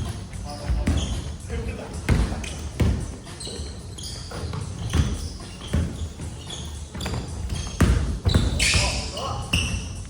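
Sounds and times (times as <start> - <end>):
basketball bouncing on gym floor: 0.0 - 3.2, 4.3 - 10.0
shoe squeaks: 0.0 - 10.0.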